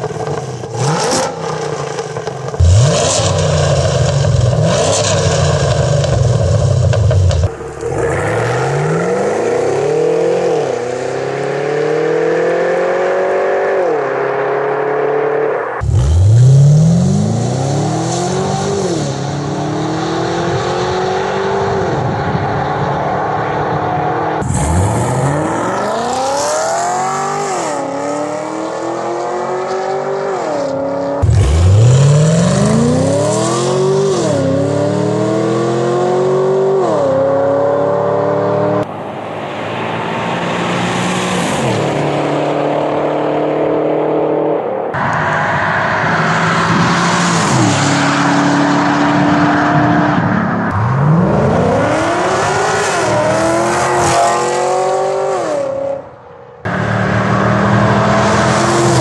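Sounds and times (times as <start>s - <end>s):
car engine accelerating through gears: 0.0s - 39.0s, 39.6s - 59.0s.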